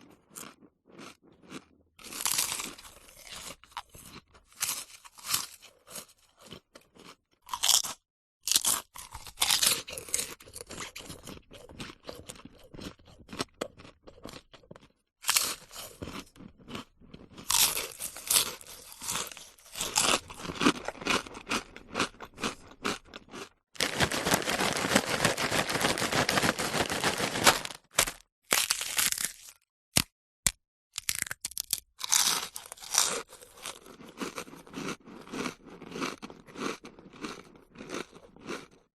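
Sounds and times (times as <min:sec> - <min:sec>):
potato chips crunched and chewed: 0:00.0 - 0:30.1, 0:31.0 - 0:38.8.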